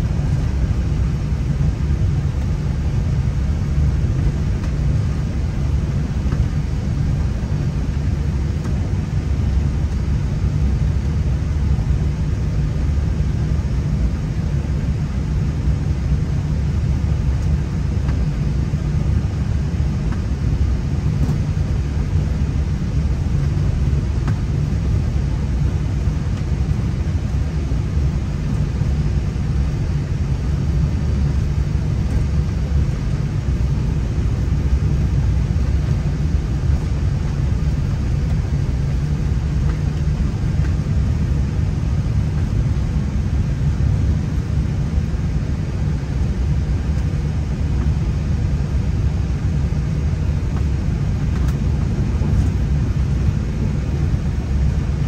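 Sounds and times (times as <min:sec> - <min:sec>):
aircraft engine rumble: 0:00.0 - 0:55.0.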